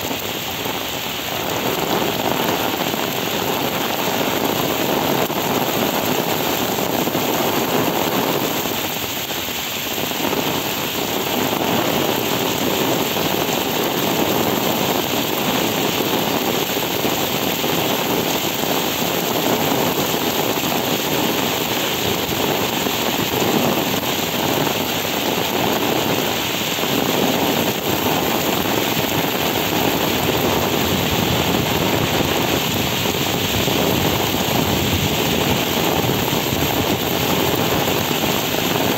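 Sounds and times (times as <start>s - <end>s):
heavy rain on wet pavement: 0.0s - 38.9s.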